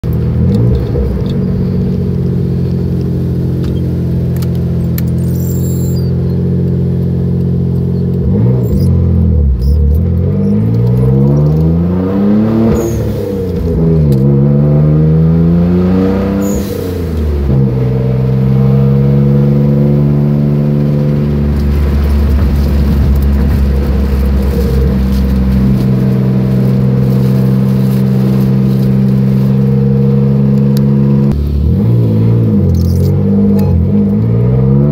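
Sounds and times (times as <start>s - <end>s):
car engine revving while driving: 0.0s - 34.9s
low rumble: 0.0s - 34.9s.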